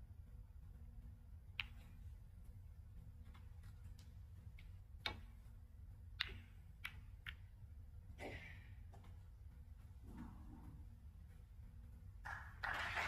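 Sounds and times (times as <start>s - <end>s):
snooker balls clicking: 1.3s - 13.0s.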